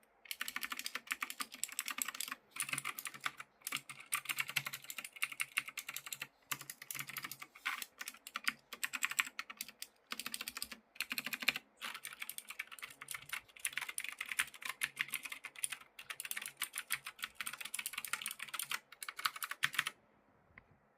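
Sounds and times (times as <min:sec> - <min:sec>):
fast mechanical keyboard typing: 0:00.3 - 0:20.0.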